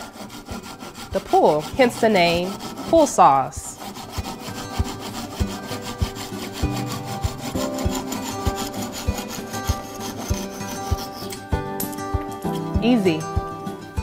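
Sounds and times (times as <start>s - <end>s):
hand saw cutting wood: 0.0s - 11.5s.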